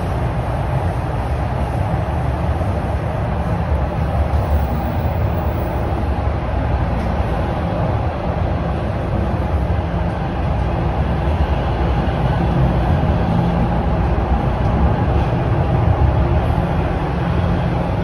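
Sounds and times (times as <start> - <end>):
subway wheels rumbling on rail: 0.0 - 18.0.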